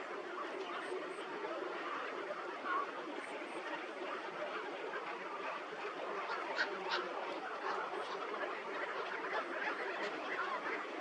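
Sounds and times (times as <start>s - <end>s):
flock of birds chattering: 0.0s - 11.0s.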